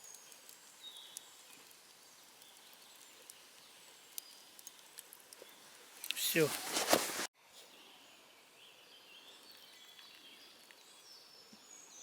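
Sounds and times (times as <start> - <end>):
faint birdsong chirps and trills: 0.0 - 6.0, 7.4 - 12.0.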